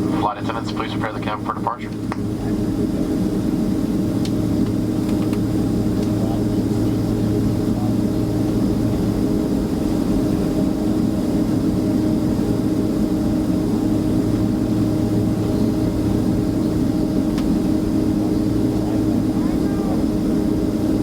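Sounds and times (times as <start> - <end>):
airplane cabin engine hum: 0.0 - 21.0.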